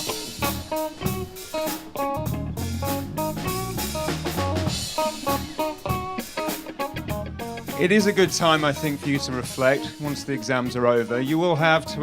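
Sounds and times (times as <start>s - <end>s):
background music with drums bass and guitar: 0.0s - 12.0s.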